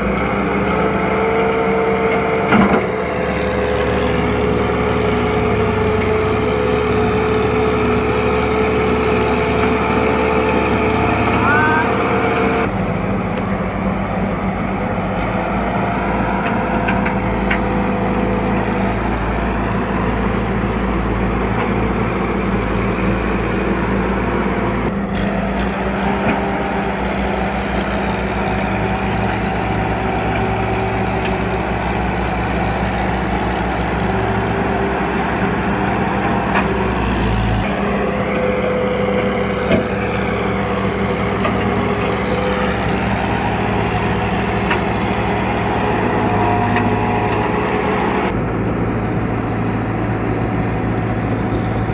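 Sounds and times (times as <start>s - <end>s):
tractor engine droning: 0.0s - 51.9s.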